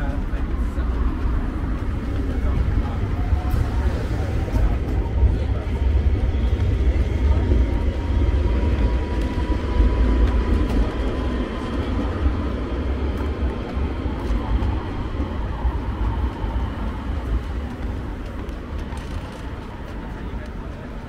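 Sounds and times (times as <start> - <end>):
street traffic: 0.0 - 21.0
tram rumbling: 0.0 - 21.0.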